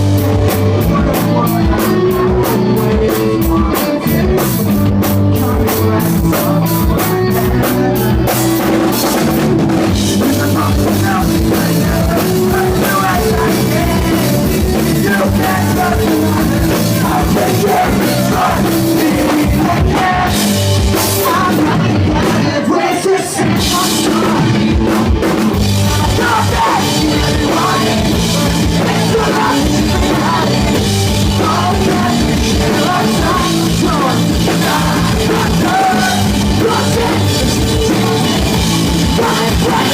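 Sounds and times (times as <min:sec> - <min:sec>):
live pop-punk band: 0:00.0 - 0:39.9.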